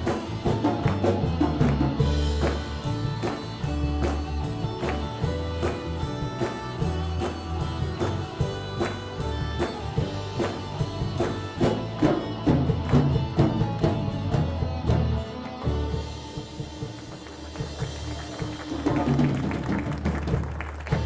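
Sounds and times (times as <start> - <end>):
instrumental band music: 0.0 - 21.0.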